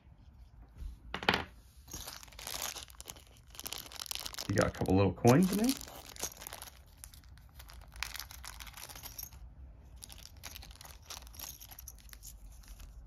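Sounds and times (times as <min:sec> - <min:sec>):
plastic bag crinkling: 0:01.9 - 0:13.0.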